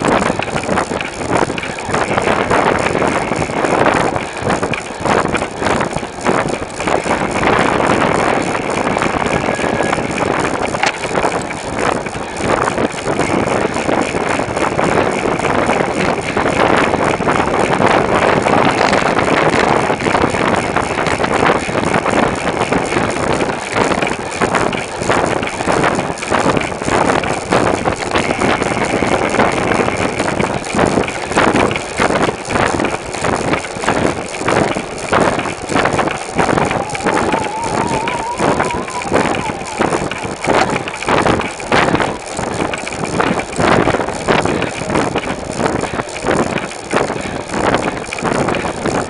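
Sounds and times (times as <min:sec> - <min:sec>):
bicycle rattles and knocks: 0:00.0 - 0:49.0
road noise: 0:00.0 - 0:49.0
wind buffeting microphone: 0:00.0 - 0:49.0.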